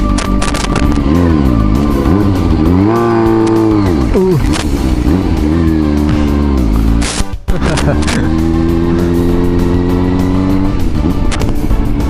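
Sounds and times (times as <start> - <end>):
background guitar music: 0.0 - 12.0
motorcycle engine revving: 0.0 - 12.0.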